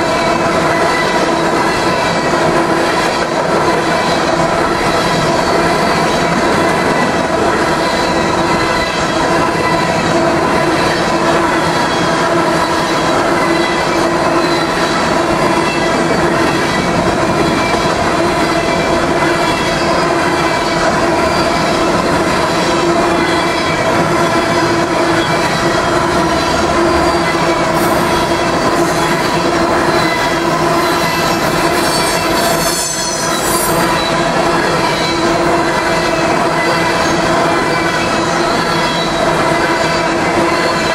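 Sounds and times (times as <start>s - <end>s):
train wheels rumbling and clattering: 0.0s - 40.9s.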